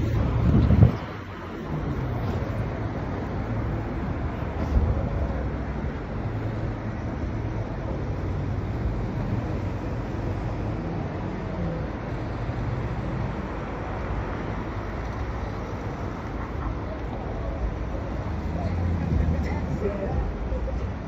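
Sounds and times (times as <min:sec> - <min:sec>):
road traffic rushing: 0:00.0 - 0:21.0.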